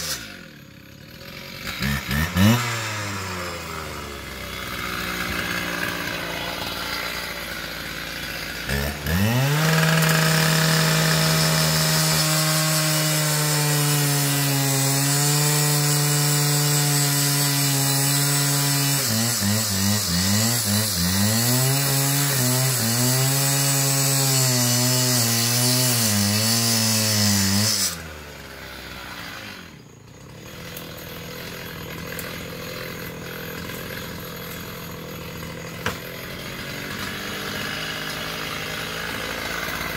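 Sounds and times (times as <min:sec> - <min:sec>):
cut-off saw revving and cutting metal: 0:00.0 - 0:39.9.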